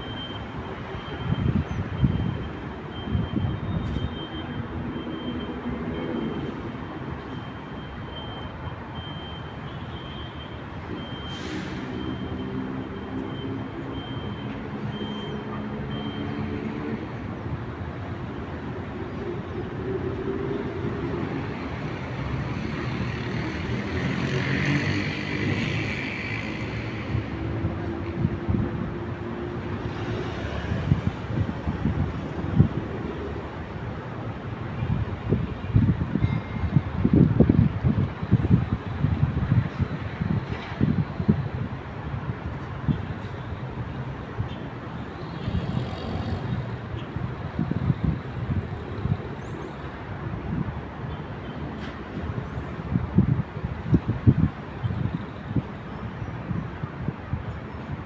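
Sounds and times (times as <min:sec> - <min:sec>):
heavy vehicles passing: 0:00.0 - 0:58.0
traffic hum: 0:00.0 - 0:58.0.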